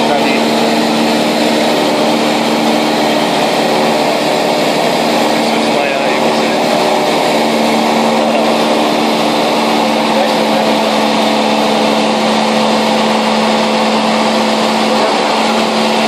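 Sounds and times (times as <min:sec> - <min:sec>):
propeller aircraft engine hum: 0:00.0 - 0:16.0
loud rush of air: 0:00.4 - 0:16.0.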